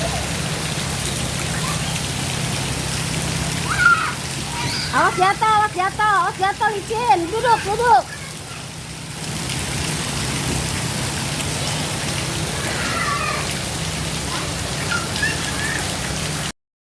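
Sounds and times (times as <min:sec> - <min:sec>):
steady rain falling: 0:00.0 - 0:16.5.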